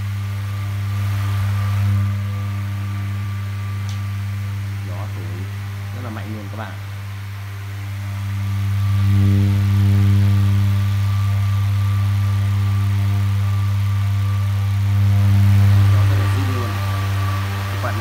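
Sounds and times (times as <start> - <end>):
electric fan humming with whine: 0.0 - 18.0.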